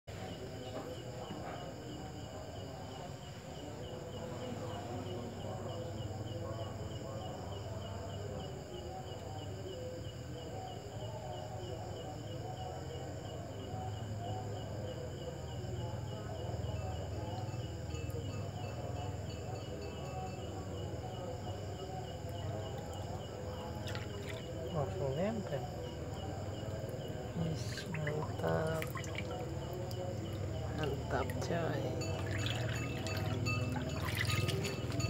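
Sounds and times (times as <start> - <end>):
insect chirping: 0.1 - 35.0.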